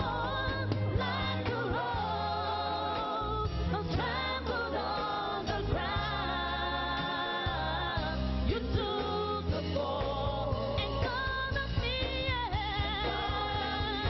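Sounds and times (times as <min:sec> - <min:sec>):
instrumental backing with bass: 0:00.0 - 0:14.0
men singing a worship song: 0:00.0 - 0:14.0.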